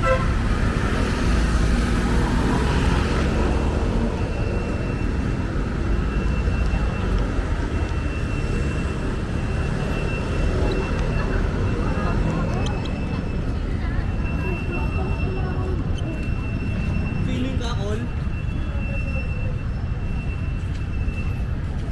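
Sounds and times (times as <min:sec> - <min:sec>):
city traffic rumble: 0:00.0 - 0:21.9.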